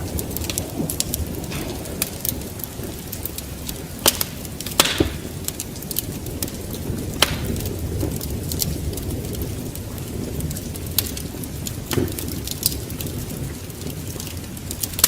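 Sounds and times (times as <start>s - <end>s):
rain: 0.0s - 15.0s
wind: 0.0s - 15.0s
wood fire crackling: 0.0s - 15.0s.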